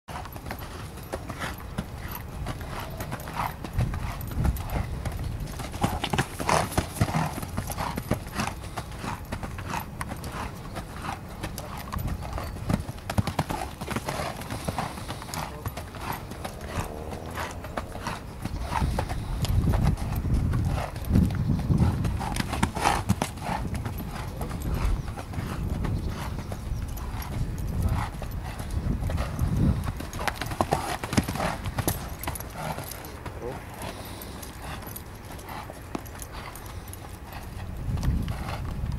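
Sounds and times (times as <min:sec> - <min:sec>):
horse hoofbeats on sand: 0:00.1 - 0:38.9.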